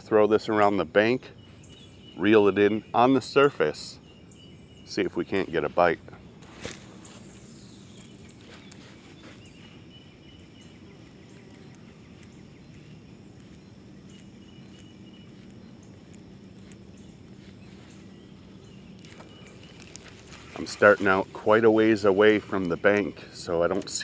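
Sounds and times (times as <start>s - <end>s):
insects chirping: 0.0s - 24.0s
steady low hum: 0.0s - 24.0s.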